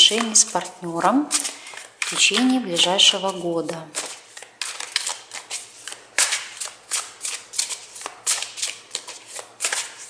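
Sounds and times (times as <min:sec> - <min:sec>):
cards being shuffled: 0:01.3 - 0:10.0.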